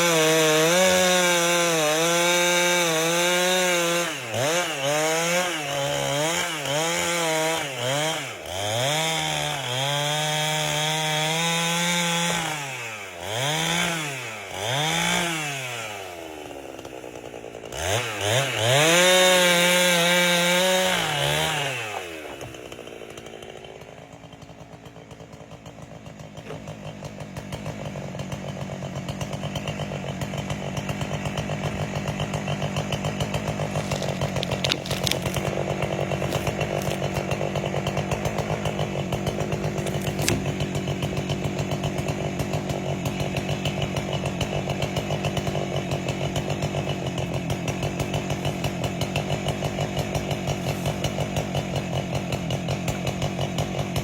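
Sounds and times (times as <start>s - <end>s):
chainsaw cutting log: 0.0s - 54.0s
chainsaw idling: 0.0s - 54.0s.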